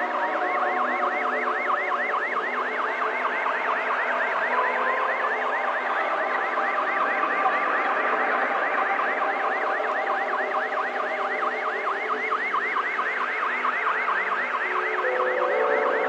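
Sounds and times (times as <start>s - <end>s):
electronic siren warbling: 0.0s - 16.0s.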